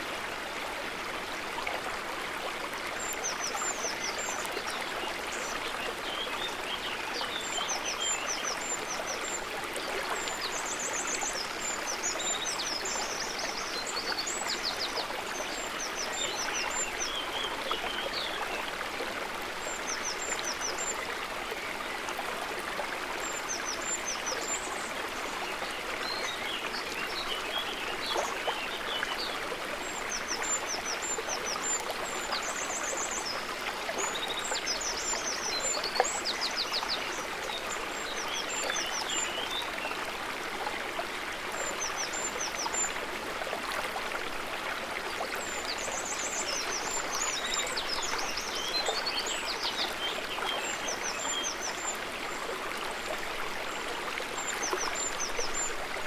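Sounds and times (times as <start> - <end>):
river rushing and trickling: 0.0 - 56.0.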